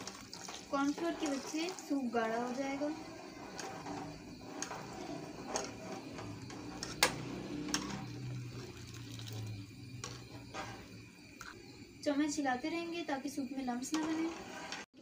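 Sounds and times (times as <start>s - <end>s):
spoon knocking and scraping pot: 0.0s - 11.6s, 13.8s - 14.9s.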